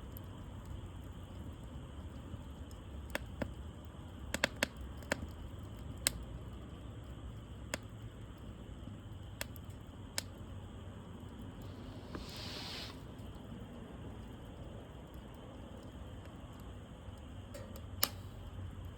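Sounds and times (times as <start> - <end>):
low steady rumble: 0.0 - 18.9
wood fire crackling: 0.0 - 18.9.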